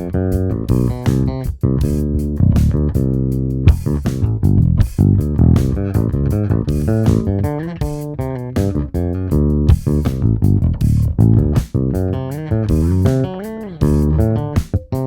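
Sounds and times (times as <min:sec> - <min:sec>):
electric bass plucked notes: 0:00.0 - 0:15.0.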